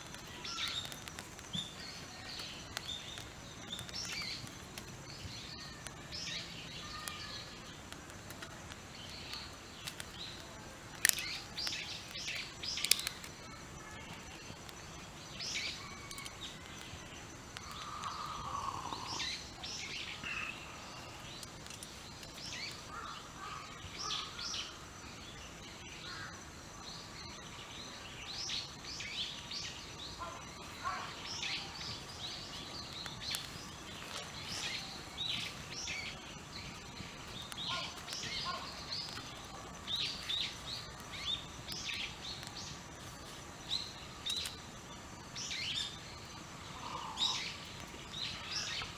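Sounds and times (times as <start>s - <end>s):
faint background hiss: 0.0s - 48.9s
small birds chirping: 0.0s - 48.9s.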